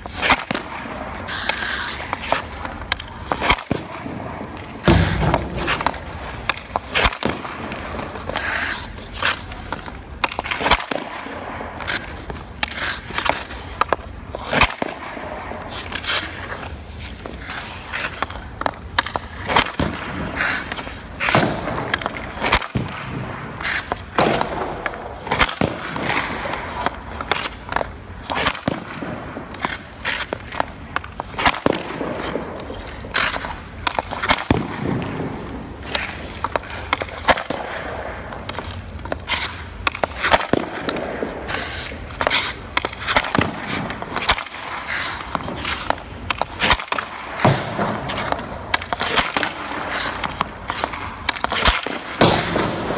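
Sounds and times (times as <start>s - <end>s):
blades scraping ice: 0.0s - 52.9s
hockey stick slapping pucks: 0.0s - 52.9s.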